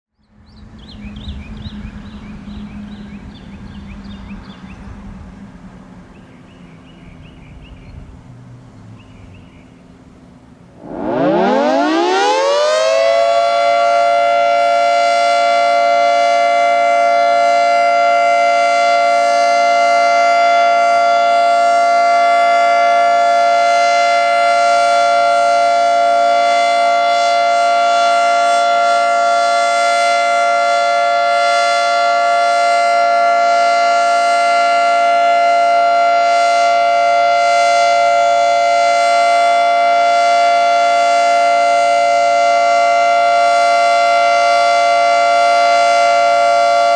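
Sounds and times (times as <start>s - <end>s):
three-tone warning siren: 0.6s - 6.1s, 10.6s - 46.9s.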